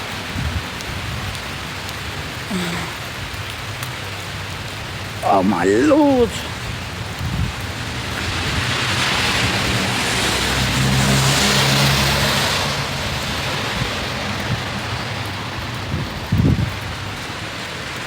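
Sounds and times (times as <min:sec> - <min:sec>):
rain falling: 0:00.0 - 0:18.0
tyres hissing on wet road: 0:00.0 - 0:18.0.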